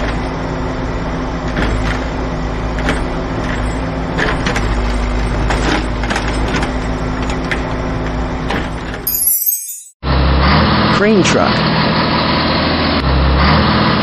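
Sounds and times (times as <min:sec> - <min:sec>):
road roller engine humming: 0:00.0 - 0:09.0, 0:10.0 - 0:14.0.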